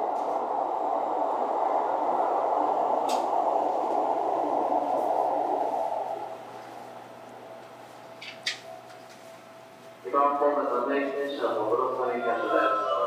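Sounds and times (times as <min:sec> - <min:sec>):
electric train noise: 0:00.0 - 0:13.0.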